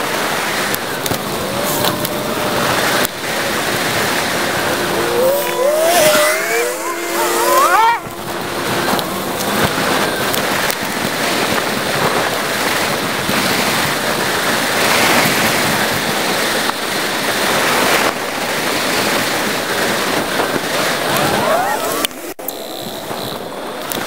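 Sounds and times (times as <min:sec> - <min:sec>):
wind buffeting microphone: 0:00.0 - 0:22.3.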